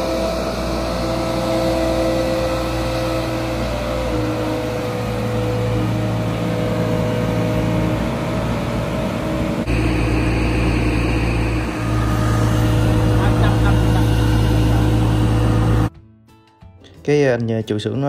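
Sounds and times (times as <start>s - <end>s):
diesel engine running: 0.0s - 15.9s
steady whine: 0.0s - 15.9s.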